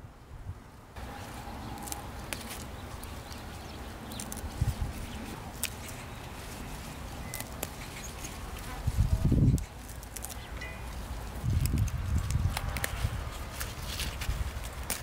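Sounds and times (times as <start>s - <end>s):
leaf stems snapping: 1.0s - 15.0s
leaves rustling: 1.0s - 15.0s.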